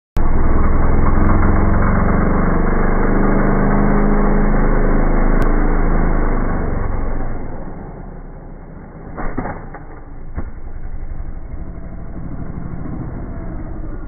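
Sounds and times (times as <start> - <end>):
motorcycle engine running: 0.2 - 9.2, 9.8 - 14.0.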